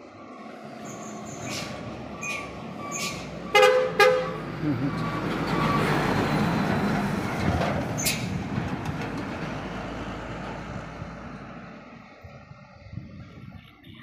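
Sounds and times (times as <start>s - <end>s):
heavy truck passing: 0.0s - 14.0s.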